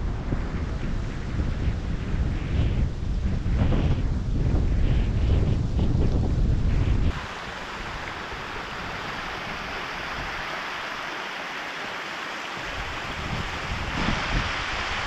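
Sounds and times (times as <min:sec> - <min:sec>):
wind buffeting microphone: 0:00.0 - 0:11.0, 0:12.6 - 0:15.0
strong wind blowing: 0:00.0 - 0:15.0.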